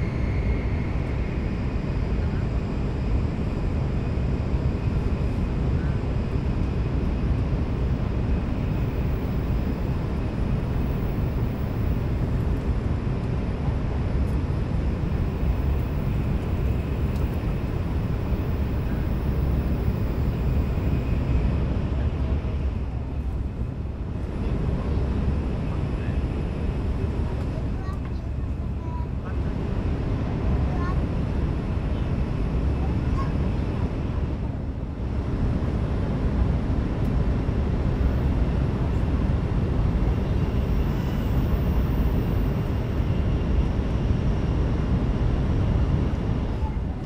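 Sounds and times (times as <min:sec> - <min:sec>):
train wheel and air rumble: 0:00.0 - 0:47.0.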